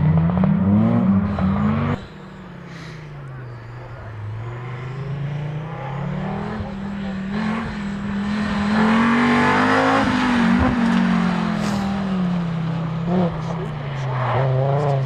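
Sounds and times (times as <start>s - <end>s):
car engine passing by: 0.0s - 15.0s.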